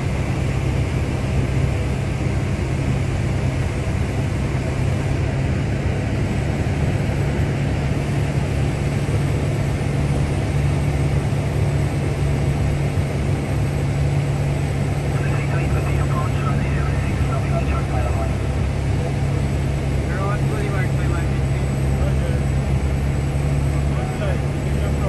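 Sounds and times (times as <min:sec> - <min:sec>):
propeller aircraft engine running: 0:00.0 - 0:25.0.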